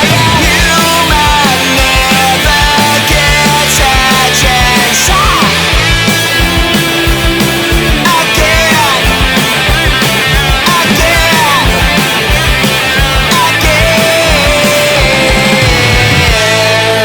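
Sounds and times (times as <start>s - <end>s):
drums with kick beat: 0.0s - 17.0s
electric guitars: 0.0s - 17.0s
sliding lead guitar line: 0.0s - 17.0s.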